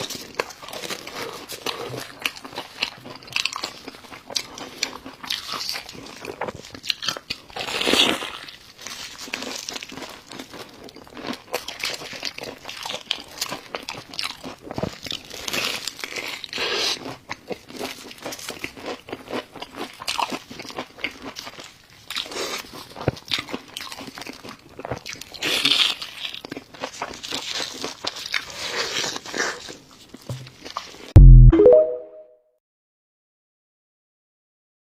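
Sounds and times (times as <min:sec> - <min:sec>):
person chewing crunchy food: 0:00.0 - 0:31.2.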